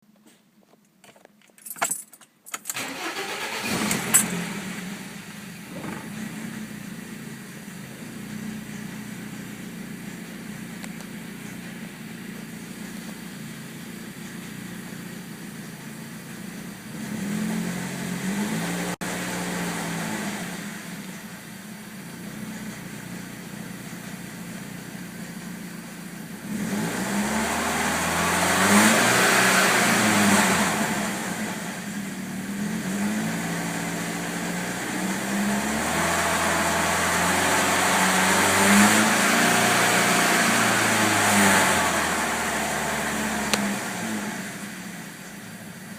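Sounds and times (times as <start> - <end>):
car engine idling and revving: 2.6 - 45.9
engine grinding noise: 2.7 - 45.9.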